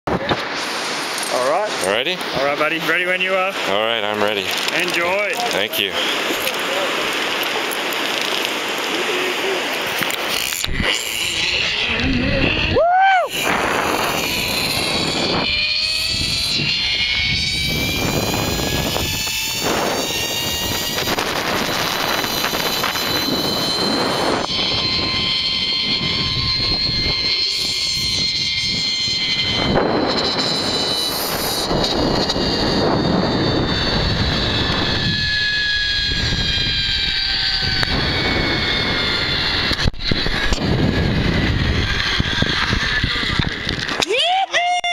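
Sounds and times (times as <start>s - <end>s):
wind rushing over microphone: 0.1s - 44.0s
zipline pulleys whining on cable: 0.4s - 44.9s.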